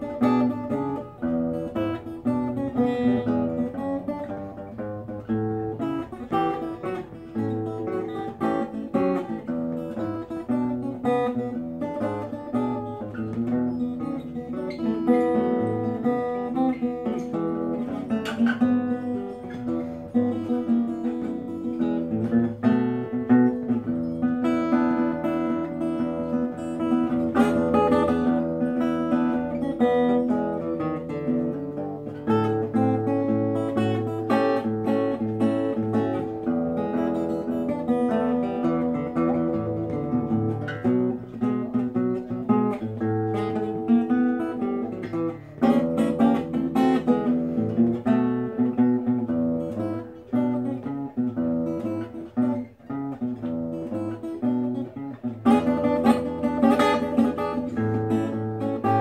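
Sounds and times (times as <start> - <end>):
fingerstyle acoustic guitar: 0.0 - 59.0.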